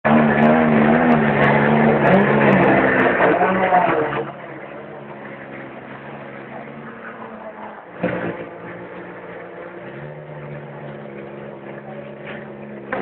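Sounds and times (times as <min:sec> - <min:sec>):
rally car engine idling: 0:00.0 - 0:13.0.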